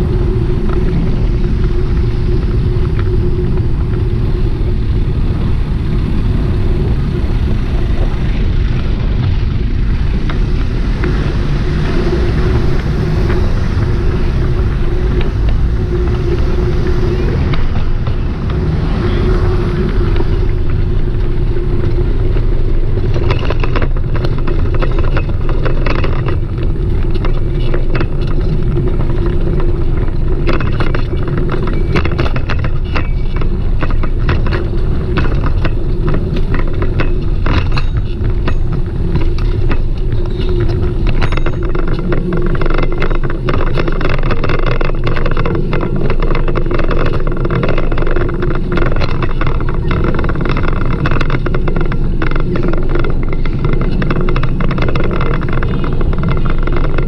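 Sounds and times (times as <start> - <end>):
bicycle rattles and clicks: 0.0 - 57.0
bicycle riding rumble: 0.0 - 57.0.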